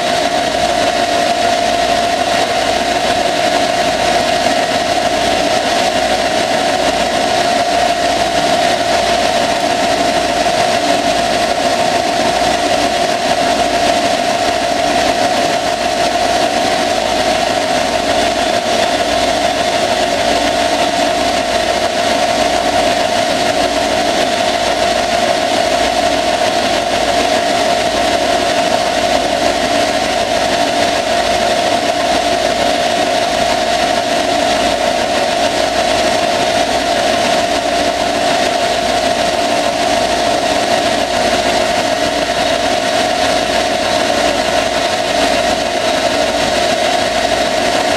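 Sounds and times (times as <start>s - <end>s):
lathe high whine: 0.0s - 47.9s.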